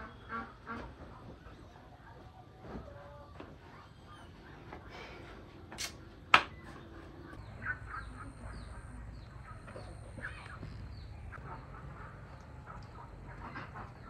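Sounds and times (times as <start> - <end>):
farmyard fowl and birds chirping: 0.0 - 5.8, 6.4 - 14.0.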